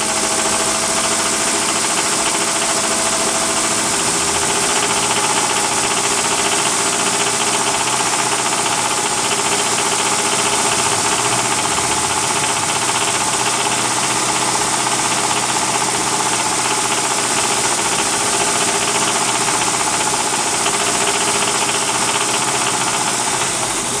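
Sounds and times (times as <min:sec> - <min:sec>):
car engine running: 0:00.0 - 0:24.0
rapid engine knocking: 0:00.0 - 0:24.0.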